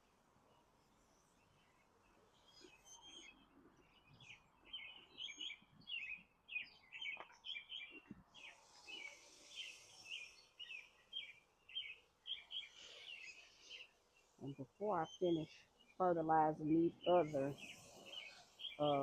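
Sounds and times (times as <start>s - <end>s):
bird chirping: 0.5s - 19.0s.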